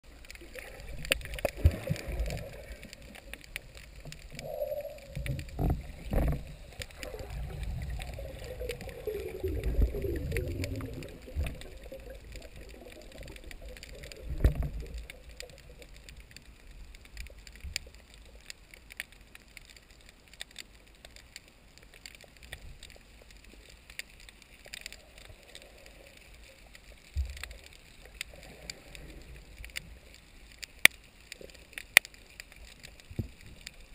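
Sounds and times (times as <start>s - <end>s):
underwater rumbling and gurgling: 0.0s - 33.9s.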